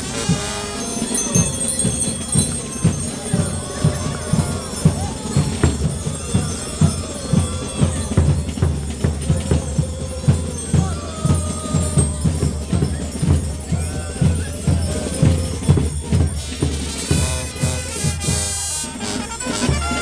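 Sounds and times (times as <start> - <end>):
drums beating dance rhythm: 0.0 - 20.0
held instrument notes: 0.0 - 20.0
jingling bells: 0.0 - 20.0.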